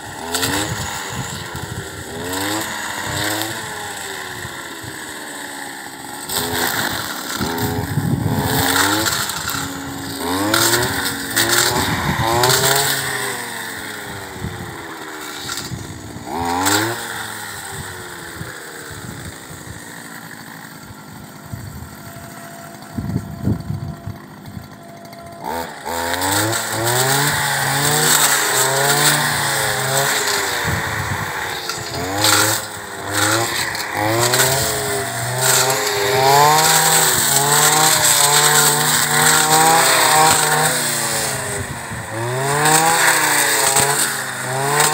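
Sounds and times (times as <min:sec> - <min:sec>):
brush cutter engine revving: 0:00.0 - 0:44.9.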